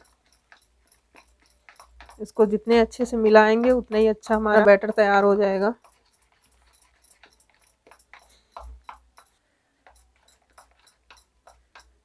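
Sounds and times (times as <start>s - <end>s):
batter being beaten in bowl: 0.0s - 12.0s.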